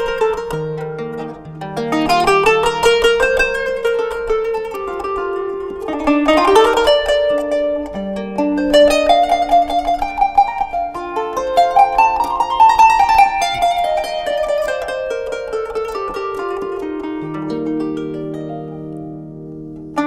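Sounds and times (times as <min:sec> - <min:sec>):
plucked zither melody: 0:00.0 - 0:20.0.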